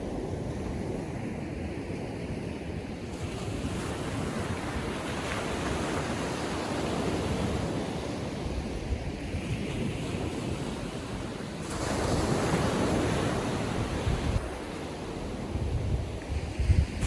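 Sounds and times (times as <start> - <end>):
small waves washing up beach: 0.0 - 17.0.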